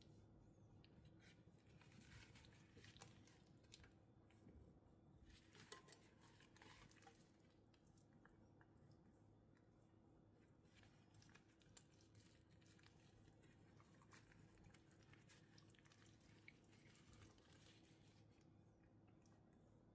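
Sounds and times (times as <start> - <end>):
soft squishing and clicking handling: 0.0 - 19.9.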